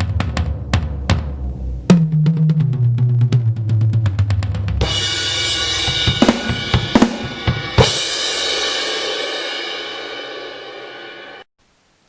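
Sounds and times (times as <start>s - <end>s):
drum hits with crash cymbals: 0.0s - 11.5s.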